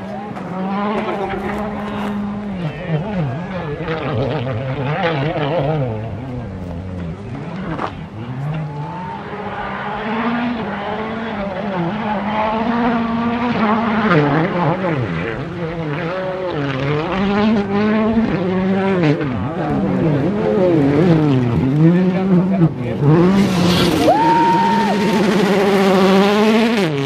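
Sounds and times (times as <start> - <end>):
distant rally car engine revving: 0.0 - 27.0.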